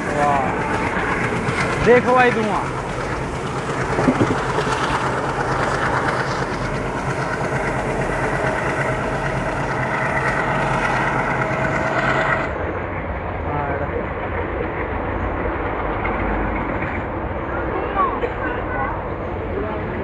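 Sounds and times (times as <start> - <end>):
diesel locomotive tones: 0.0 - 20.0
train wheels rumbling on rails: 0.0 - 20.0.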